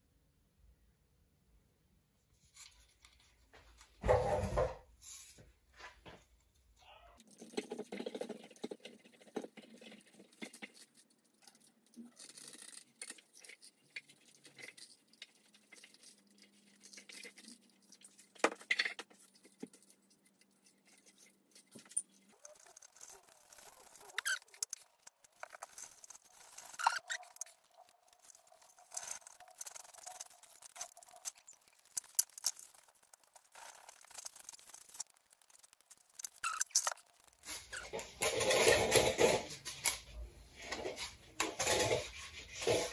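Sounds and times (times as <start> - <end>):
wire scraping over plastic pipe: 7.2 - 42.9.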